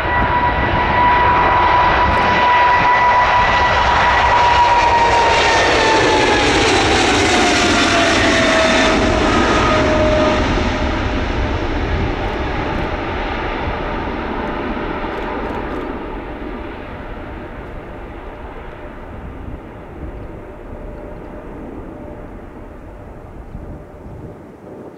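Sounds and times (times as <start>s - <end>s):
jet engine rumble with whining fan: 0.0s - 24.9s.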